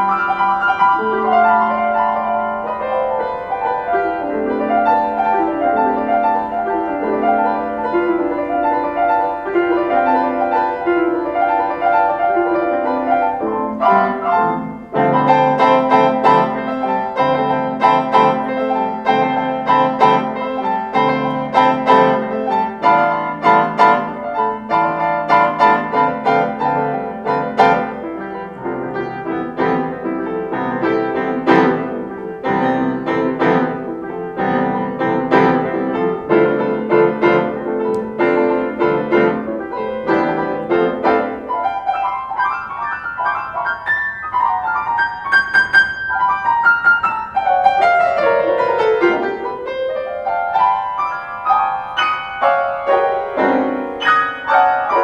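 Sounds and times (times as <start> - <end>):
solo piano playing: 0.0 - 55.0.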